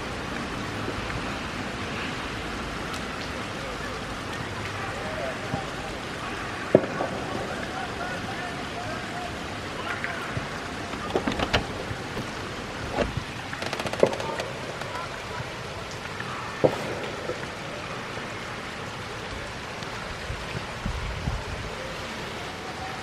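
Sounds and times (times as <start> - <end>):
steady rain on paving and grass: 0.0 - 23.0.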